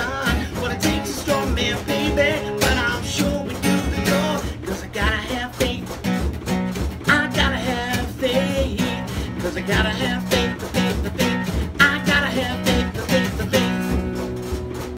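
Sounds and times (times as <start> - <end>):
person singing: 0.0 - 6.0, 7.0 - 14.3
acoustic guitar strumming: 0.0 - 14.9.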